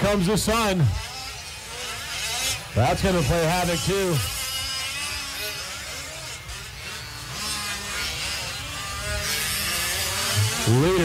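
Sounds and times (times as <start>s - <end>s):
small two-stroke engines buzzing: 0.0s - 11.0s.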